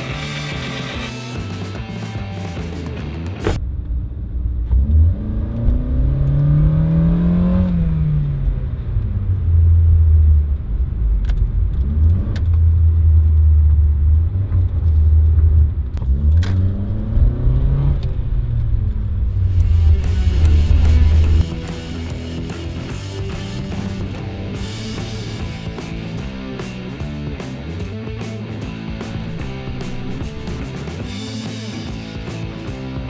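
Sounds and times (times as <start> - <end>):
car engine drone: 0.0 - 33.0.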